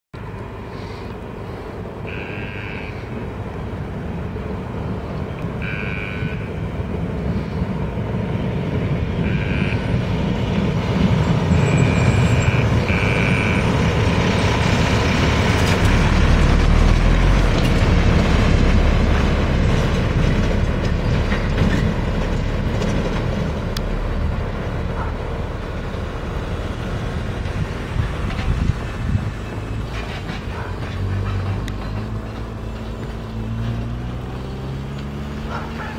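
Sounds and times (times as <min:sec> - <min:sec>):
diesel truck engine: 0:00.2 - 0:35.9
tyres on dirt road: 0:00.2 - 0:35.9.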